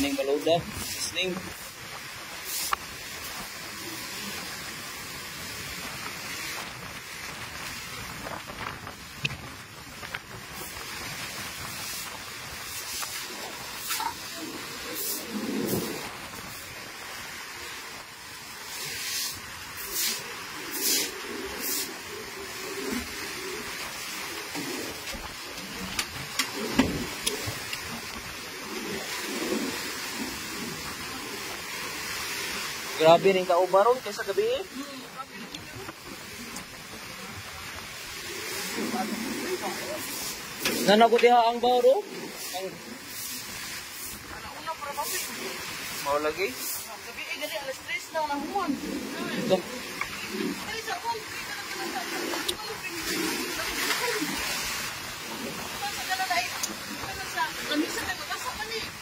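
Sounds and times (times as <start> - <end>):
seawater splashing over concrete: 0.0 - 59.0.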